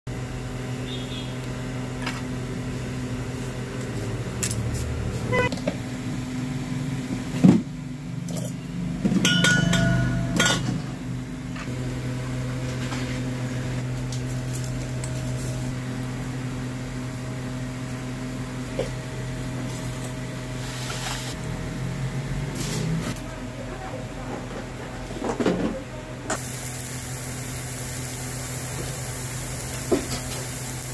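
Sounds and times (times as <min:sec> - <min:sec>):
low machine hum: 0:00.1 - 0:30.9.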